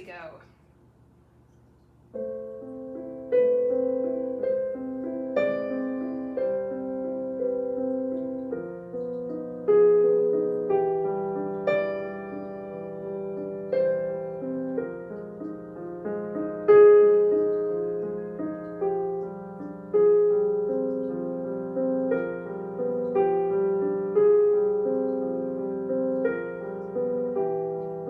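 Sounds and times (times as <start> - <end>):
slow dissonant solo piano: 2.1 - 28.0.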